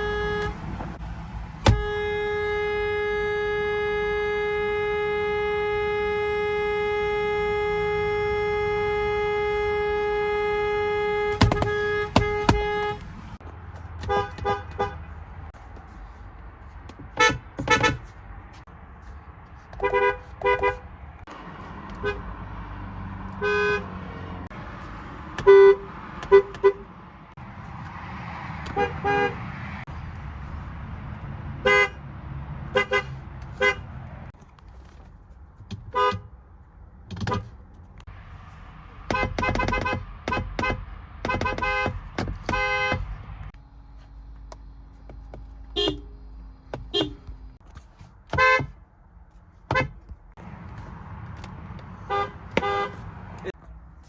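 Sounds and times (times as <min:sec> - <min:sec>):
car horns honking: 0:00.0 - 0:15.6, 0:17.1 - 0:18.6, 0:19.7 - 0:27.4, 0:28.3 - 0:29.9, 0:31.6 - 0:34.3, 0:35.7 - 0:36.4, 0:37.1 - 0:37.6, 0:39.0 - 0:48.8, 0:49.6 - 0:53.6
low traffic rumble: 0:00.0 - 0:54.0.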